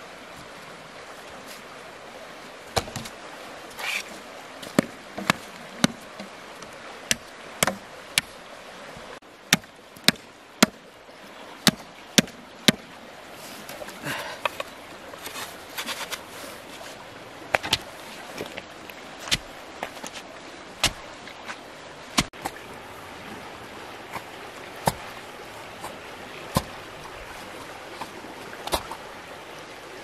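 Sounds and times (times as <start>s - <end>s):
river water running: 0.0s - 30.0s.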